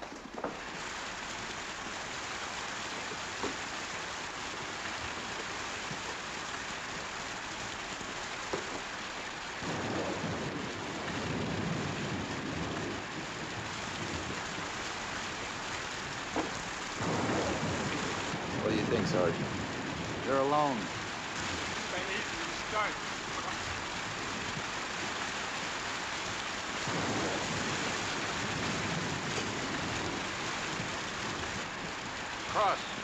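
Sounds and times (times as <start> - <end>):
thunder rumbling: 0.0 - 33.0
heavy rain hissing: 0.2 - 33.0.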